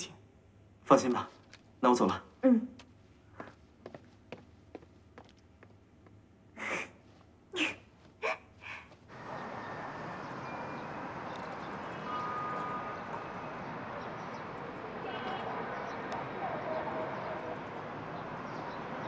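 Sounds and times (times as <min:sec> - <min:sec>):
outdoor background hiss: 0:00.0 - 0:16.8.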